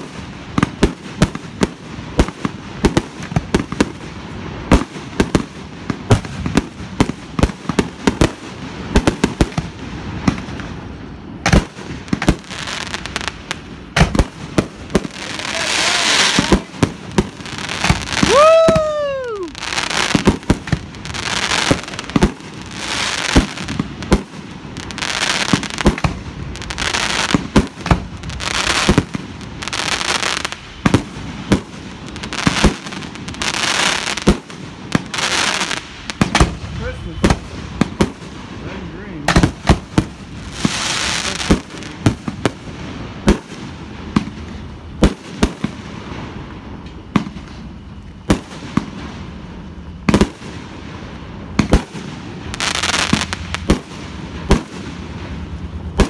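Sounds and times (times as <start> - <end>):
fireworks bangs: 0.0 - 56.0
fireworks crackling hiss: 0.0 - 56.0
whistling firework: 0.0 - 56.0.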